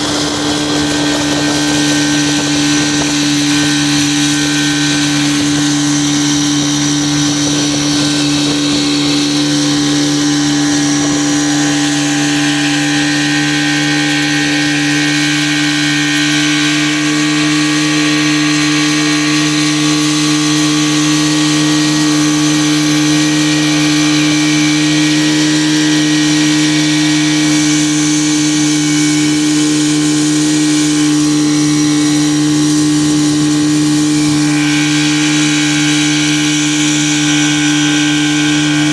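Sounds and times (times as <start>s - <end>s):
motorboat engine drone: 0.0s - 38.9s
wind and water hiss: 0.0s - 38.9s.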